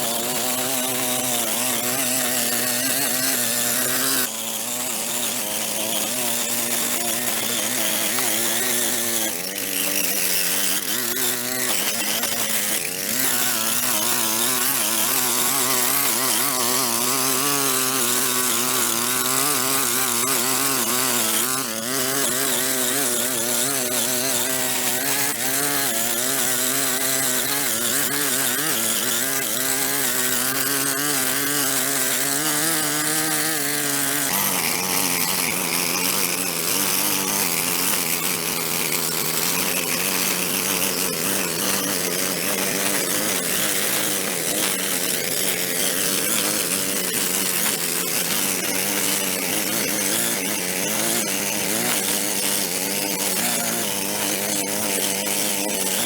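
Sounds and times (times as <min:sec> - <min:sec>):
small power tool running: 0:00.0 - 0:56.0.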